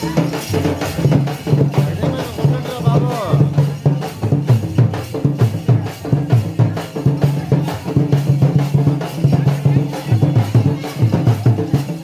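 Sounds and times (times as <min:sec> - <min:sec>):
drum-led dance music: 0:00.0 - 0:12.0.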